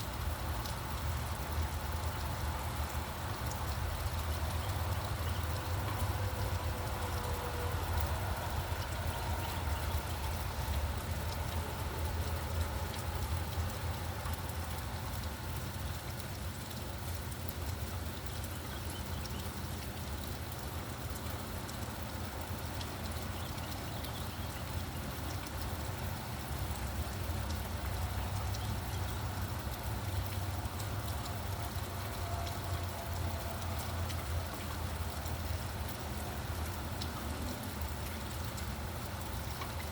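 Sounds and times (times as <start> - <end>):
low rumble of road traffic: 0.0 - 39.9
rain pattering: 0.0 - 39.9.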